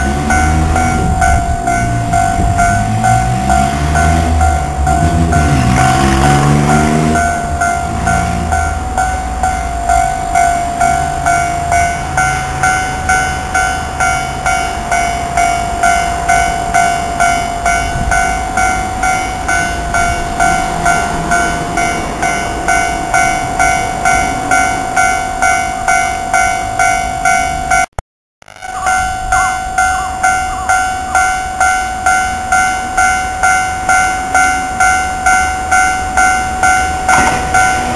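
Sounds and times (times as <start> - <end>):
train rumbling past: 0.0 - 27.8, 28.8 - 37.9
level-crossing warning bell: 0.0 - 37.9.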